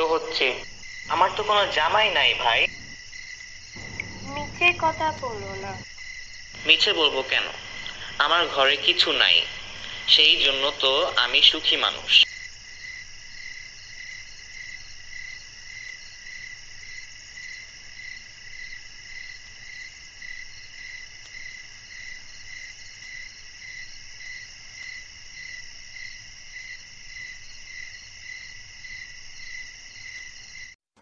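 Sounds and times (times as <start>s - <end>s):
crickets chirping: 0.0s - 30.8s.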